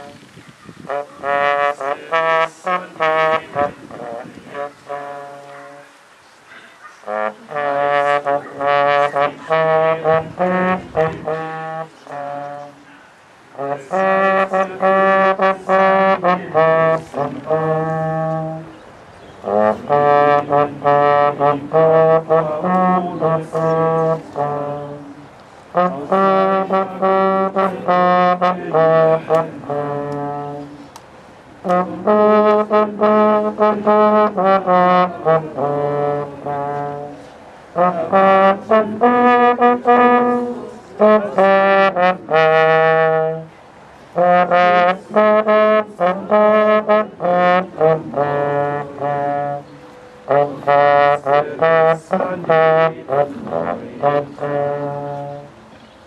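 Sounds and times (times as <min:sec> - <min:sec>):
brass instrument playing slow tune: 0:00.0 - 0:06.0, 0:07.0 - 0:55.7.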